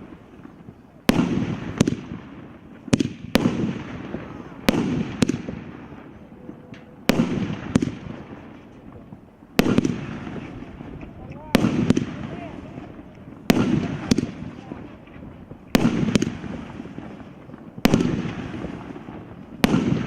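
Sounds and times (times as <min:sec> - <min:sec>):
fireworks bangs with crackle: 0:00.0 - 0:20.0.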